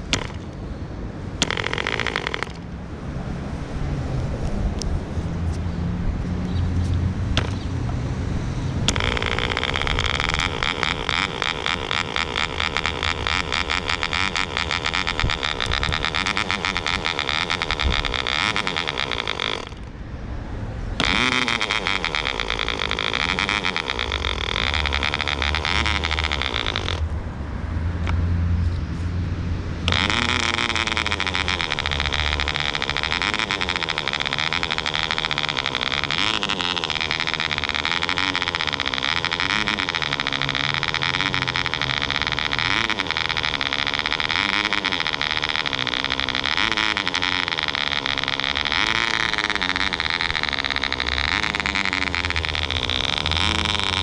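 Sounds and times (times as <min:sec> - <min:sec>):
model aircraft engine buzzing: 0:00.0 - 0:27.2, 0:27.9 - 0:54.0.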